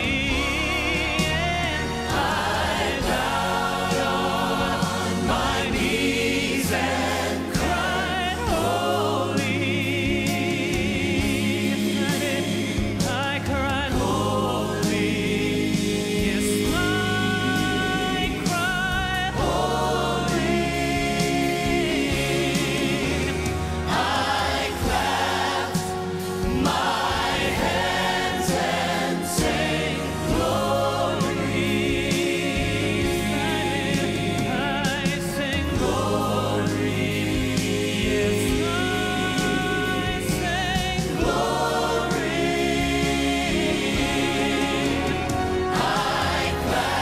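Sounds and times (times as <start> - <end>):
vocal group singing in harmony: 0.0 - 47.0.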